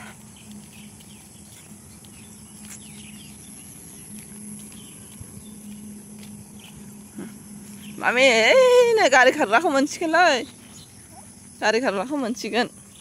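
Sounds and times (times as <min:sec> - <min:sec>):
faint low hum: 0:00.0 - 0:13.0
high-pitched insect drone: 0:00.0 - 0:13.0.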